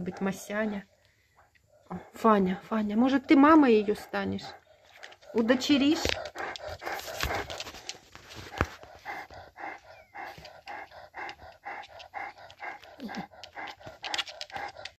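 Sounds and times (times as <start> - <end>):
dog panting rapidly: 0.0 - 15.0.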